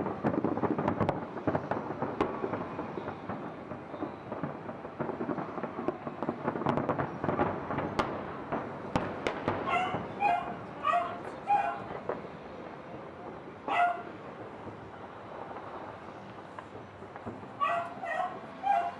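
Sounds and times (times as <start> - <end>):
fireworks bursts rumbling: 0.0 - 18.9
sharp firework cracks: 0.0 - 18.9.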